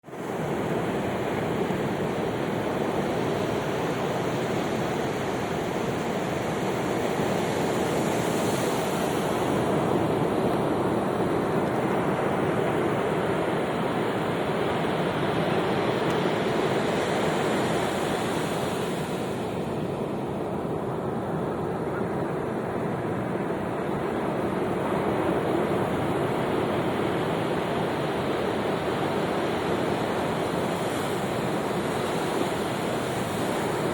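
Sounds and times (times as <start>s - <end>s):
ocean surf on sandy beach: 0.0s - 33.9s.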